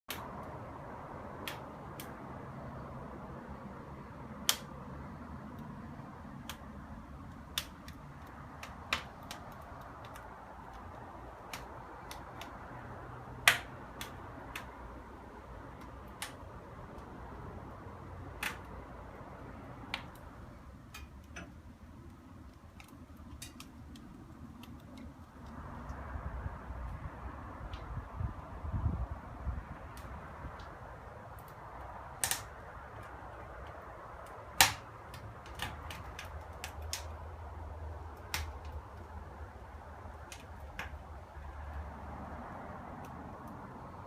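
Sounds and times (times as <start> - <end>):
wood fire crackling: 0.1 - 44.0.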